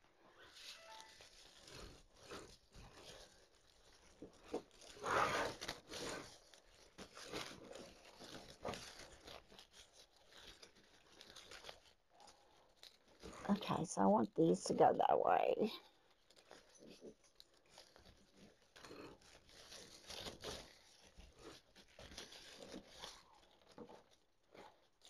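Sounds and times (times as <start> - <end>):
artificial flowers rustling: 0.2 - 25.0.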